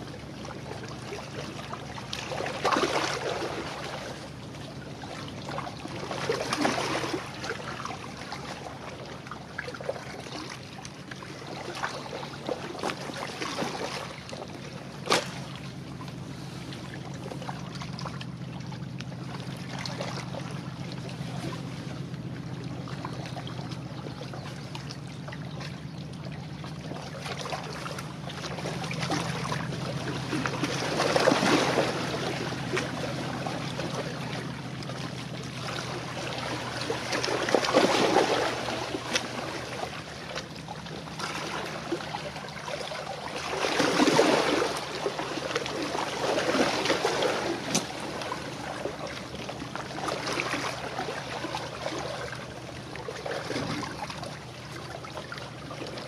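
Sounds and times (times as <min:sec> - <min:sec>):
low ship engine hum: 0:00.0 - 0:56.0
small waves lapping: 0:00.0 - 0:56.0.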